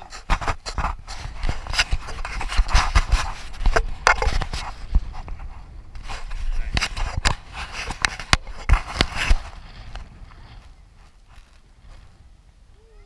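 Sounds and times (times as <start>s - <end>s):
rubbing on microphone: 0.0s - 12.2s.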